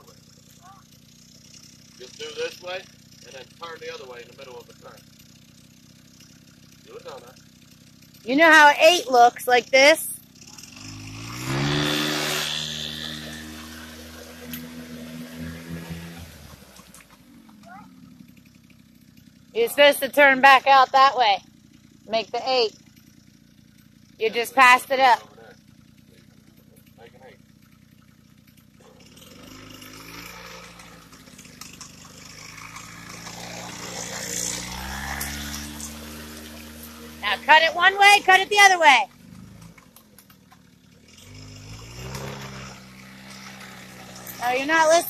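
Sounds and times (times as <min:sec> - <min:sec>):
dirt bike engine at high revs: 0:00.0 - 0:45.0.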